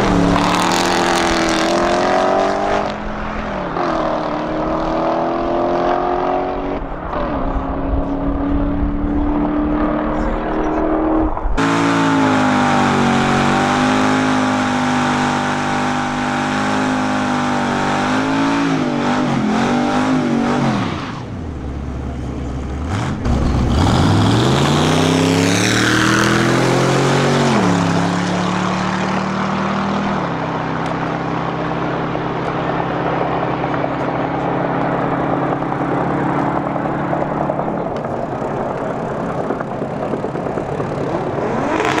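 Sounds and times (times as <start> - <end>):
truck engine accelerating hard: 0.0 - 42.0.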